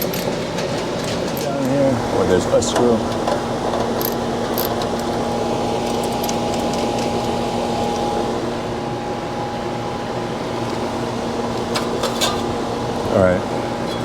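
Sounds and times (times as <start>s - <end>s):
air conditioner hum and fan: 0.0s - 14.0s.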